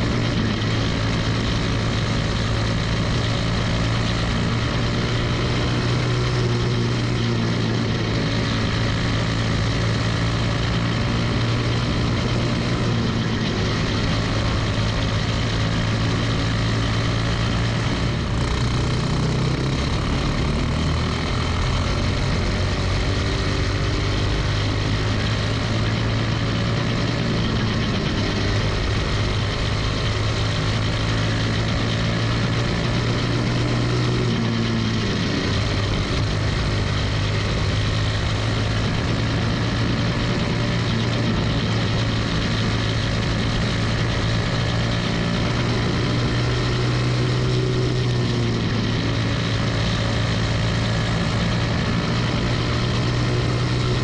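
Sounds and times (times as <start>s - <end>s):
engine running hard: 0.0s - 54.0s
other cars' engines: 0.0s - 54.0s.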